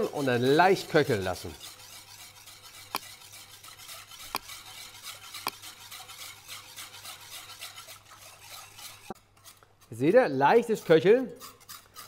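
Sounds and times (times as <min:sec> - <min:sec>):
whisk scraping in metal pot: 0:00.0 - 0:12.0.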